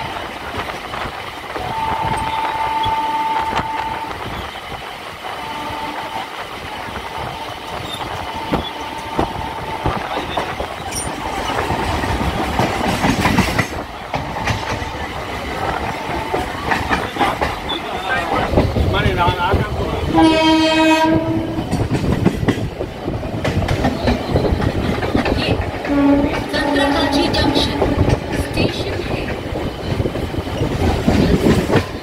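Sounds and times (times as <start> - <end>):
train rumble: 0.0 - 32.0
train wheels clicking over rail joints: 0.0 - 32.0.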